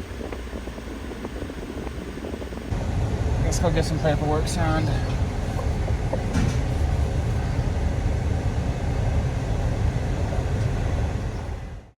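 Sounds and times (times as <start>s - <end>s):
truck engine rumbling: 0.0s - 11.9s.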